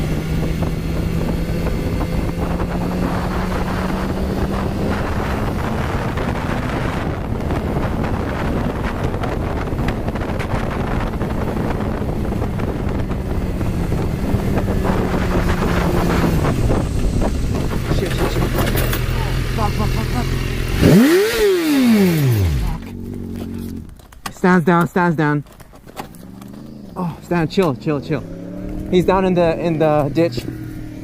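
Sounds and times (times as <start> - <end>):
wind noise on microphone: 0.0 - 24.0, 26.6 - 31.0
motorcycle engine running: 0.0 - 24.1, 26.1 - 31.0.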